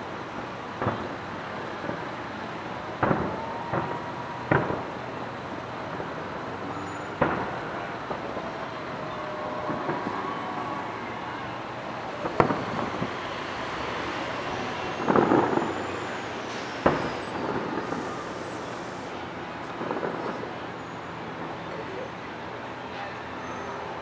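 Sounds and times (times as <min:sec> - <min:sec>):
city traffic noise: 0:00.0 - 0:24.0
distant fireworks bursting: 0:00.2 - 0:23.5.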